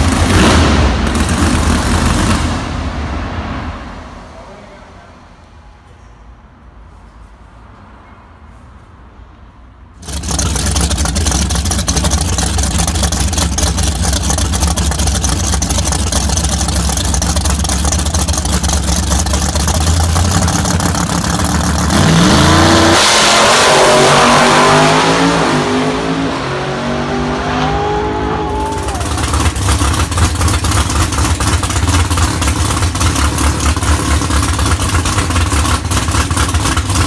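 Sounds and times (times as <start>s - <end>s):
drag racing car engine revving: 0.0s - 4.2s, 10.0s - 37.0s.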